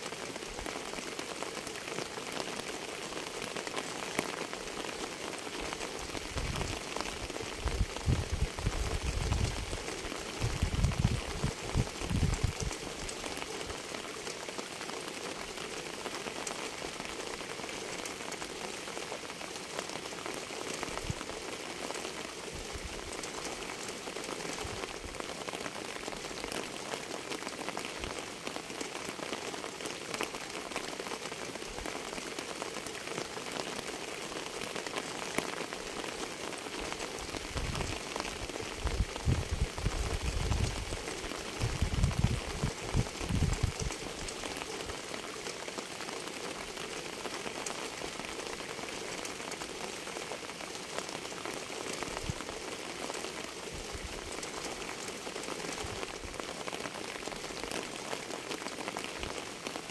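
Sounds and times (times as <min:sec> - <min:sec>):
steady rain with ticking drops: 0:00.0 - 0:59.9.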